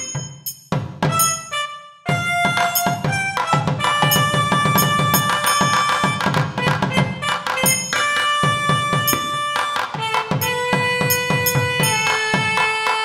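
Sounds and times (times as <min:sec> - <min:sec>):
small cymbals: 0:00.0 - 0:01.7, 0:02.3 - 0:06.8, 0:07.5 - 0:13.0
drum accompaniment: 0:00.0 - 0:13.0
double-reed horn melody: 0:01.1 - 0:13.0.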